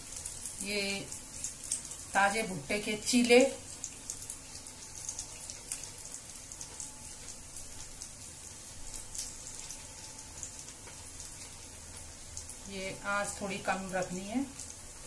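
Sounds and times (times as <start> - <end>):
batter sizzling in a pan: 0.0 - 15.0.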